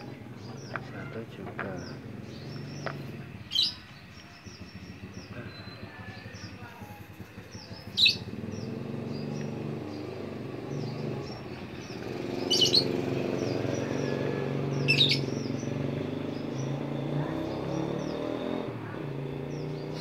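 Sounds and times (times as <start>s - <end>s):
finches chirping: 0.0s - 20.0s
low engine hum: 0.0s - 20.0s.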